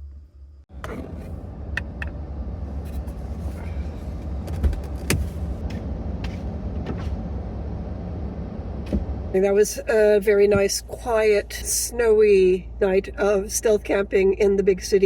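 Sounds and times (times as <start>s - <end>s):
minivan engine rumble: 0.0s - 15.0s.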